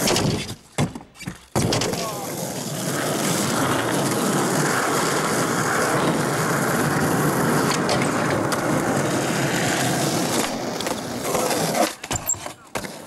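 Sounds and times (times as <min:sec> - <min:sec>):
skateboard clacks: 0:00.0 - 0:13.0
skateboard wheels rolling on concrete: 0:00.0 - 0:13.0
skateboard grinding on ledge: 0:01.5 - 0:13.0.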